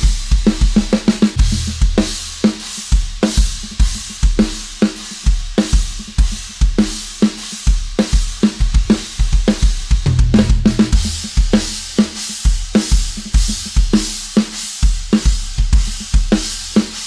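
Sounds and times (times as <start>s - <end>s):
cymbal and hi-hat wash: 0.0s - 17.0s.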